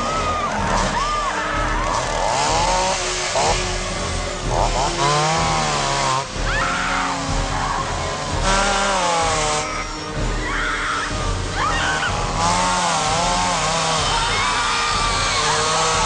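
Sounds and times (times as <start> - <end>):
belt sander motor whining: 0.0 - 16.0.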